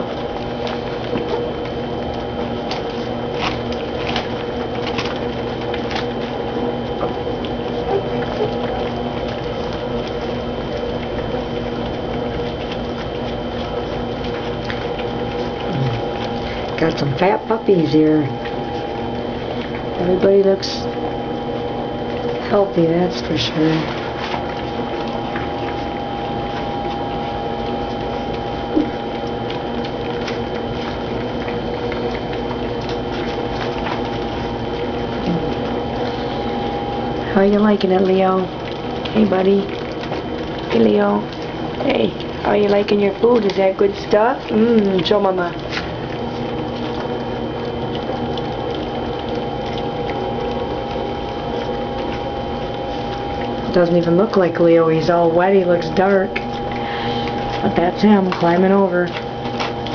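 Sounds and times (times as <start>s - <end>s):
puppies lapping wet food: 0.0s - 59.9s
steady hum: 0.0s - 59.9s.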